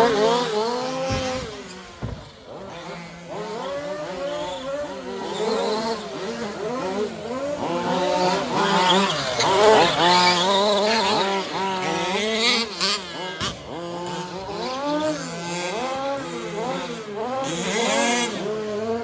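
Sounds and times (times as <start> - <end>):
rc truck engines revving: 0.0 - 19.0.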